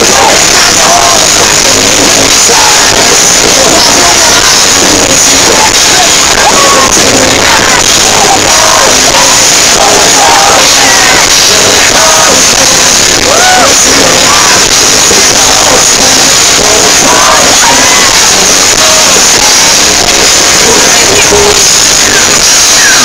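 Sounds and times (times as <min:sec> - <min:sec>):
crowd yelling and singing along: 0:00.0 - 0:23.0
live pop concert music: 0:00.0 - 0:23.0.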